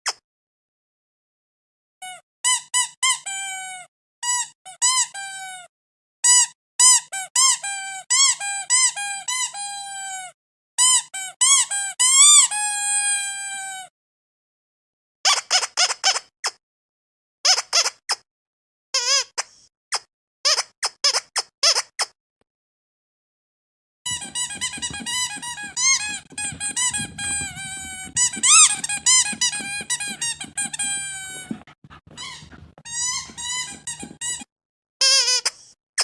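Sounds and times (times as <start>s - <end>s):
squeaky rubber dog toy: 2.0s - 13.9s, 15.2s - 16.6s, 17.4s - 18.2s, 19.0s - 22.1s, 24.1s - 36.0s.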